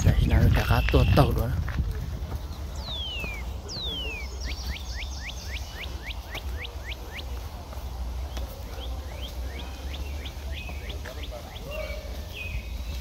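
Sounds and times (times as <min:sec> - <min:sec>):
songbird singing: 0:00.0 - 0:13.0
faint chirps: 0:02.4 - 0:13.0.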